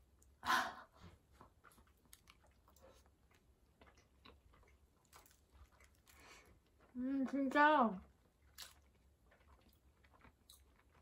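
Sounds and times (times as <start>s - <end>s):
quiet chewing: 0.1s - 11.0s.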